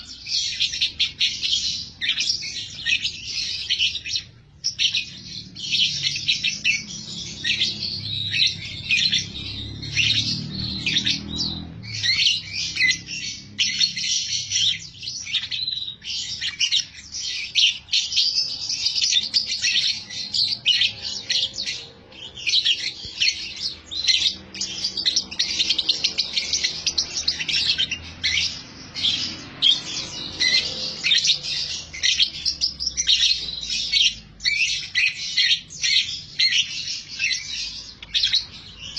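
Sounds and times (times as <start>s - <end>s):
lovebird chattering: 0.0s - 38.9s.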